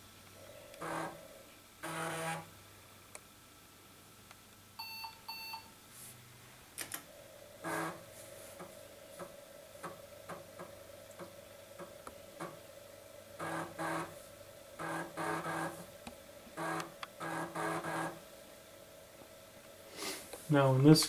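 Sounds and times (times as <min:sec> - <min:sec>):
floppy drive humming: 0:00.0 - 0:21.0.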